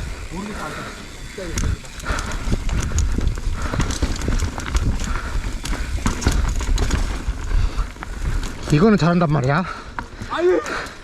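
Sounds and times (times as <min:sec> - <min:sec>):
bike clattering over rocks: 0:01.1 - 0:10.9.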